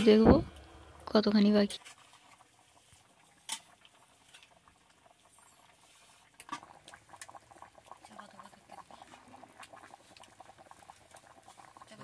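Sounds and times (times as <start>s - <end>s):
curry bubbling and popping: 0.0s - 12.0s.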